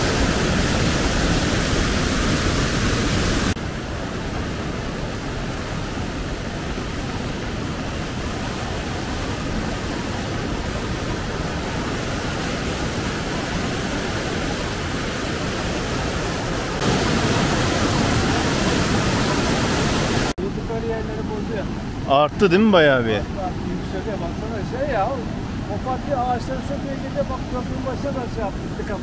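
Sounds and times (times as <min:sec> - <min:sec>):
creek rushing: 0:00.0 - 0:29.0
water churning through rapids: 0:00.0 - 0:29.0.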